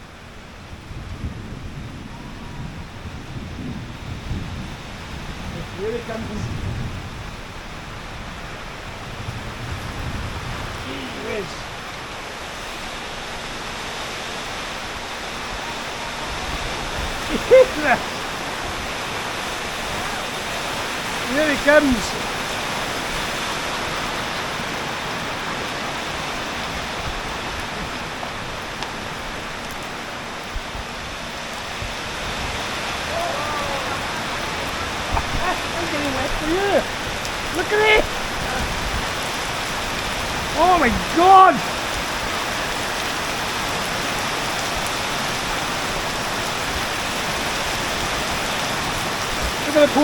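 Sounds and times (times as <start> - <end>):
heavy rain hissing: 0.0 - 50.0.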